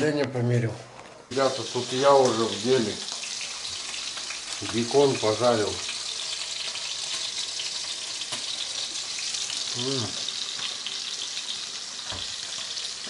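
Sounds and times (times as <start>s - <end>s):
meat frying in a pan: 1.3s - 13.0s.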